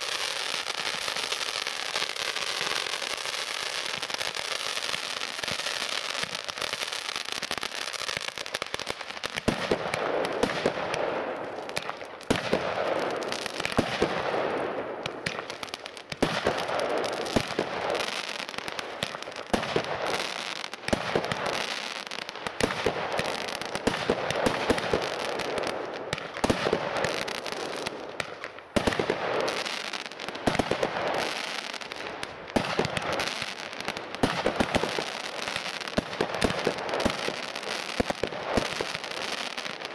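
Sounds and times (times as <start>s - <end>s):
firework crackling: 0.0s - 39.9s
firework shots popping: 0.0s - 39.9s.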